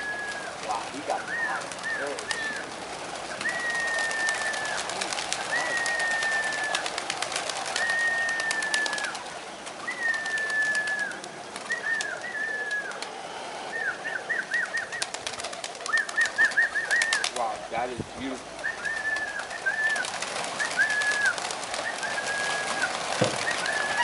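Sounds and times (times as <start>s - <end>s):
pigeon whistles and chirps: 0.0s - 2.6s, 3.3s - 7.0s, 7.6s - 9.2s, 9.8s - 17.4s, 18.6s - 24.0s
wings clapping and flapping: 0.0s - 24.0s.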